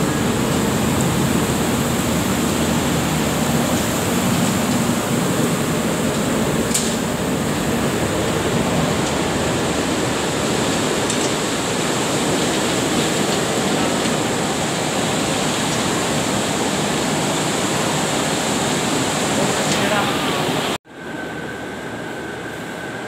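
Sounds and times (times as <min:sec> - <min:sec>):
machinery running: 0:00.0 - 0:23.0.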